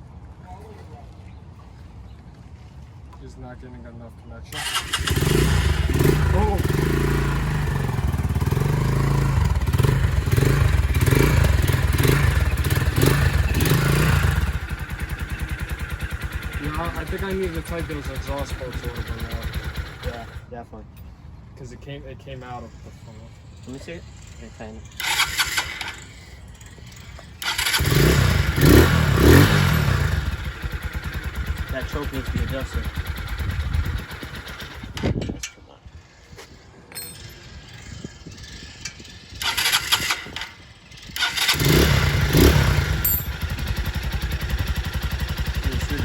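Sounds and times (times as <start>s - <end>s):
motorcycle engine throttle blips: 4.6s - 20.5s, 23.7s - 35.6s, 36.5s - 46.0s.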